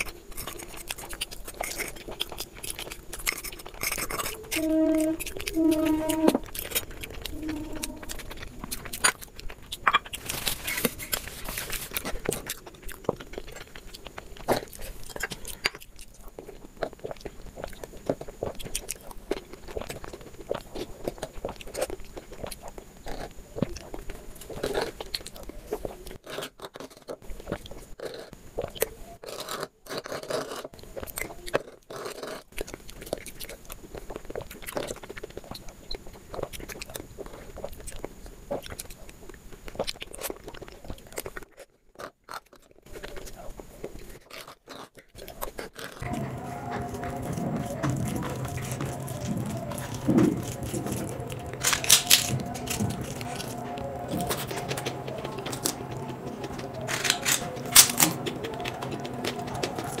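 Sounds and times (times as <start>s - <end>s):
wet chewing: 0.0s - 60.0s.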